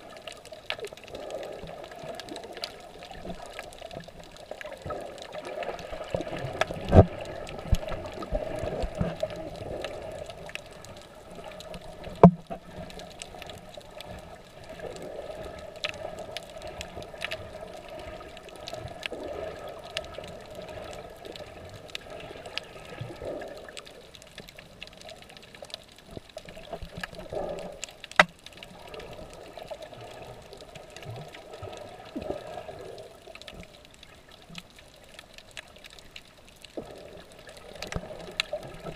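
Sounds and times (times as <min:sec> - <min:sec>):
faint scattered clicks: 0:00.0 - 0:38.9
muffled underwater rush: 0:00.0 - 0:38.9.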